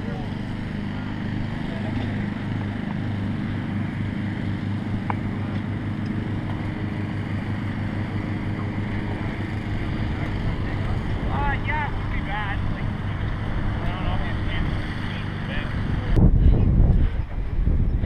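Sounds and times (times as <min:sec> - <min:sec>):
helicopter running: 0:00.0 - 0:18.0.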